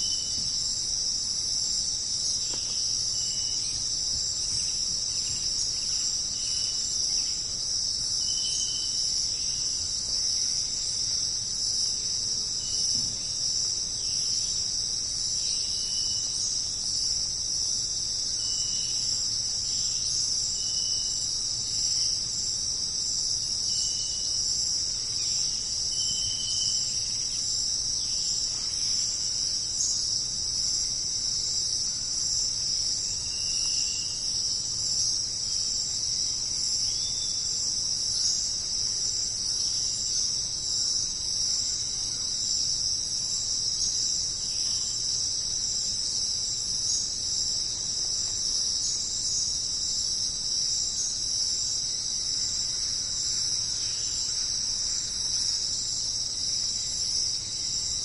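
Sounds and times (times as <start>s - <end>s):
insect chorus trilling: 0.0s - 58.0s.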